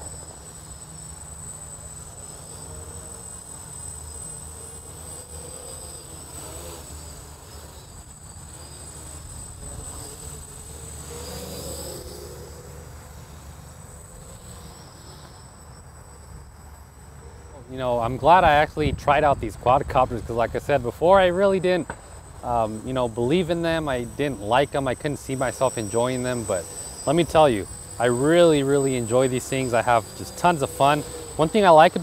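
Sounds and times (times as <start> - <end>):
quadcopters buzzing in flight: 0.0 - 32.0.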